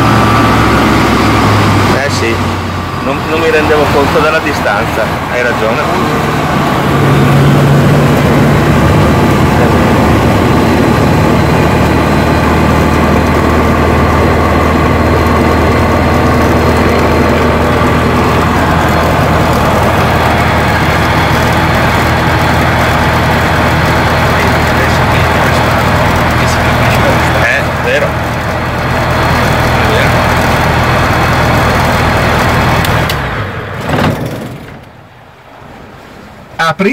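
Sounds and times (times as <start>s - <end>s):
plane engine and propeller running: 0.0s - 36.9s.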